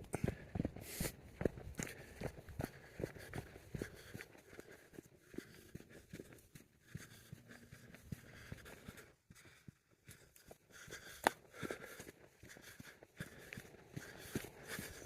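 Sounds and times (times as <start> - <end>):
footsteps on dirt and rock: 0.0 - 4.7, 6.1 - 15.0.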